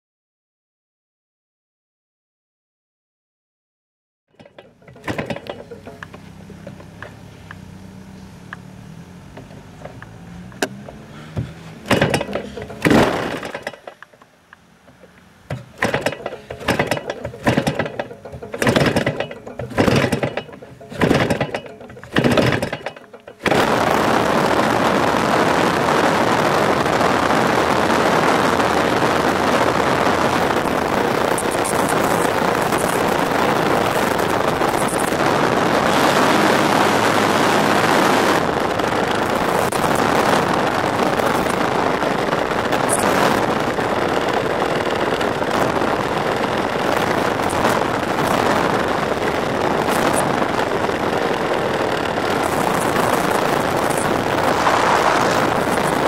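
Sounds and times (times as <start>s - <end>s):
two-stroke engine starting and running: 4.4s - 56.0s.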